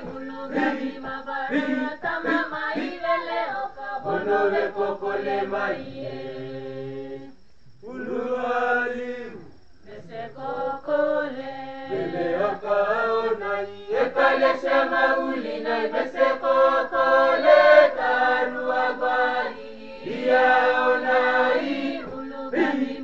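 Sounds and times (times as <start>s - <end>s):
group singing a hymn in harmony: 0.0s - 23.0s.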